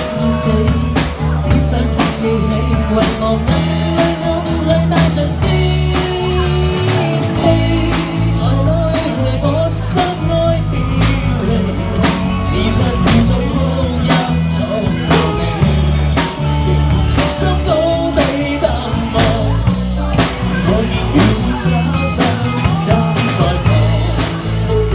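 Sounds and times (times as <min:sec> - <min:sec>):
drum kit steady beat: 0:00.0 - 0:24.9
live band playing pop ballad: 0:00.0 - 0:24.9.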